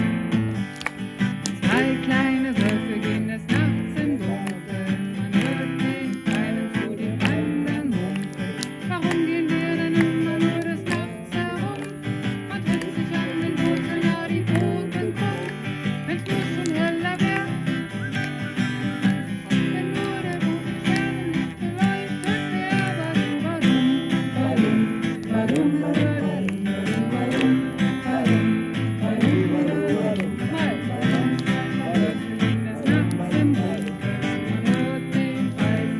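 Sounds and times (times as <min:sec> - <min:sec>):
strummed acoustic string instrument: 0:00.0 - 0:35.9
person singing: 0:01.5 - 0:35.9.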